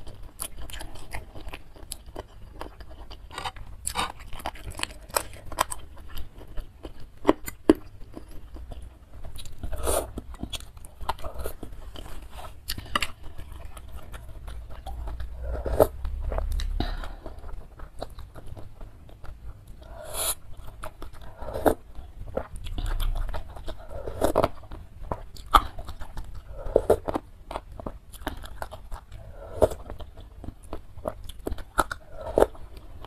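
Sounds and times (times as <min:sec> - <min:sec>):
wet chewing: 0:00.0 - 0:33.0.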